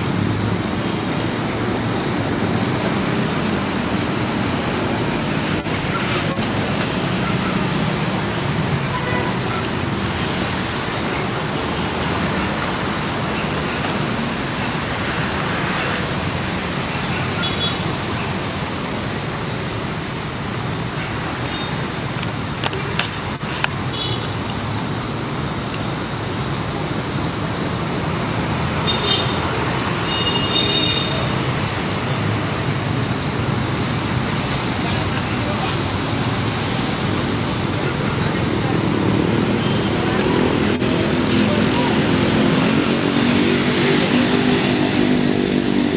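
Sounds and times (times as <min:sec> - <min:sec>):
vehicle and road noise: 0:00.0 - 0:45.9.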